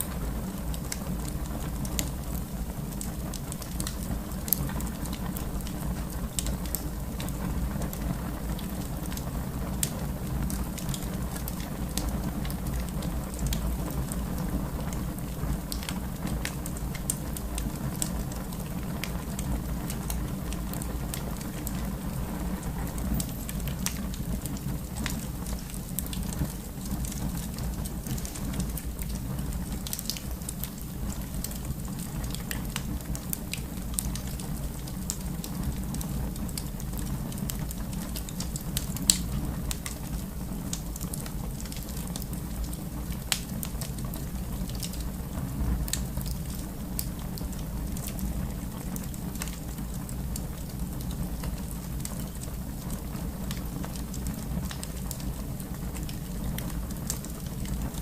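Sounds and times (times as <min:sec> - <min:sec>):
fire crackling and popping: 0:00.0 - 0:58.0
fire flames rumbling: 0:00.0 - 0:58.0.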